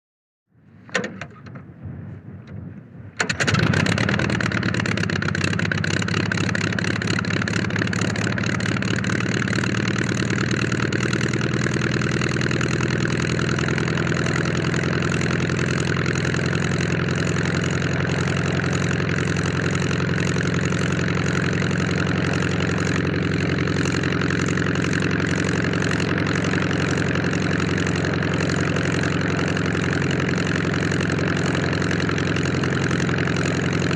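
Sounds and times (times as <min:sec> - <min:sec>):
propeller airplane engine starting: 0:00.6 - 0:33.9.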